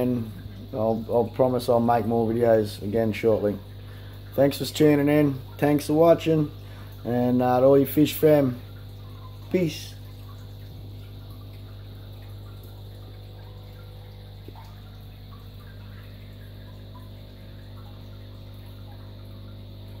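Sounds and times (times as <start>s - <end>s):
aquarium pump hum: 0.0s - 20.0s
water trickling and splashing: 0.0s - 20.0s.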